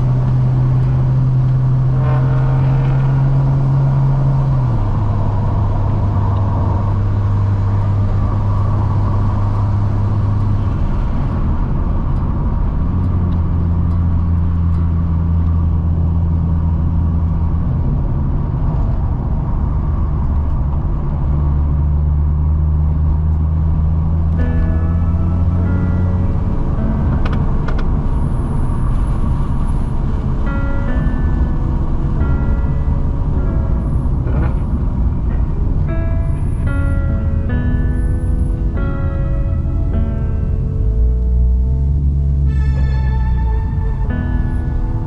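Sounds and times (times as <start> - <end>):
car engine droning: 0.0 - 45.0.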